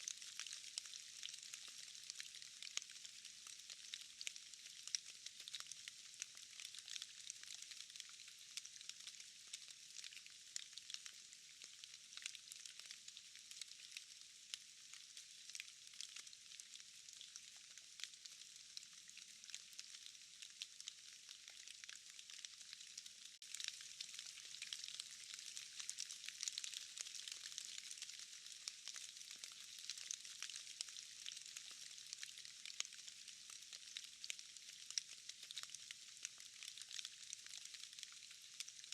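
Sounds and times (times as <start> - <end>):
raindrops dripping from trees: 0.0 - 38.9
steady rain falling: 0.0 - 38.9.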